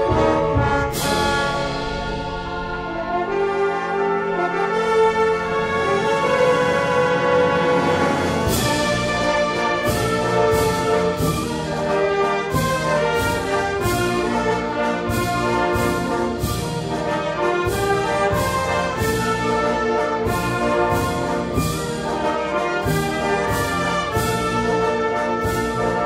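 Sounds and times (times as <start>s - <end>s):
steady percussion beat: 0.0s - 3.5s, 8.3s - 26.0s
wind band playing pasodoble: 0.0s - 26.0s.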